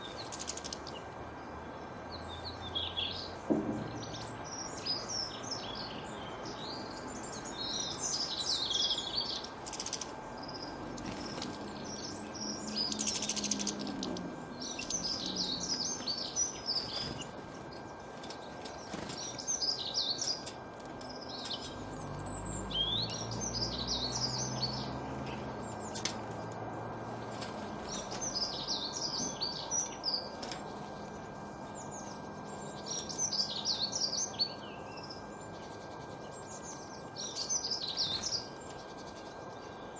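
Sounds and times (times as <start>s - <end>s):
songbird twittering: 2.1s - 18.0s, 18.6s - 26.0s, 27.9s - 39.9s.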